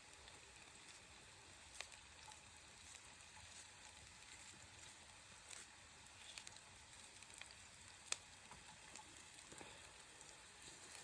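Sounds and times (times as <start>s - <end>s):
onion sizzling in a frying pan: 0.0s - 11.0s.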